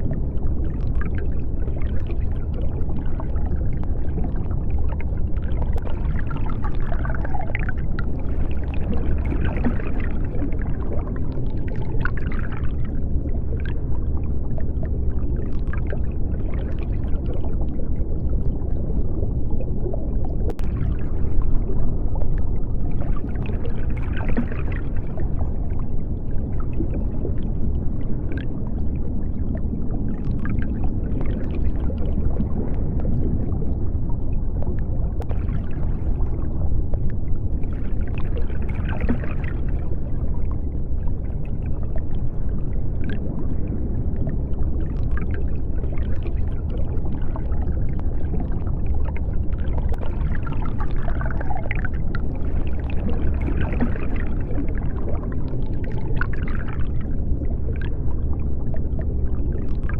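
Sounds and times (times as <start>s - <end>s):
deep underwater rumble: 0.0s - 59.9s.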